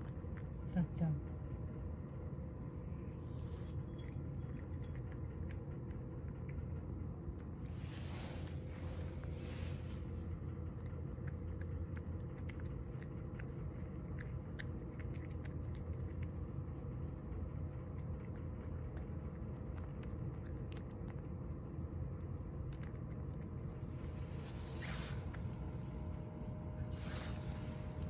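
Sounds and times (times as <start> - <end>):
cat chewing crunchy food: 0.0 - 28.0
low hum: 0.0 - 28.0.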